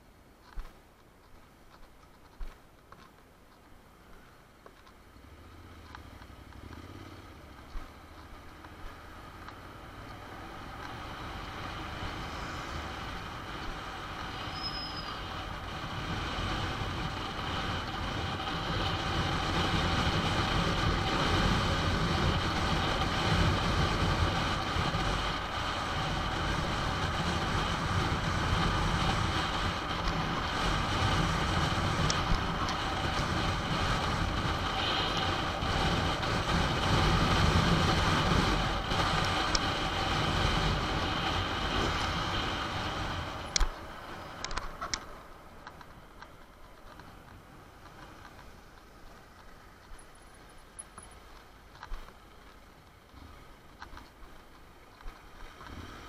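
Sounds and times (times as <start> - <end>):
road and wind noise: 0.0 - 56.0
motorcycle engine: 5.2 - 51.4.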